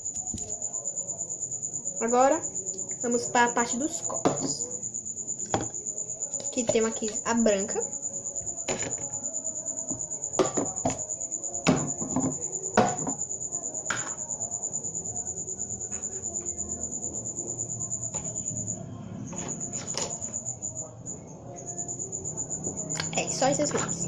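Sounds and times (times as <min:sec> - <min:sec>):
cricket chirping trill: 0:00.0 - 0:24.0.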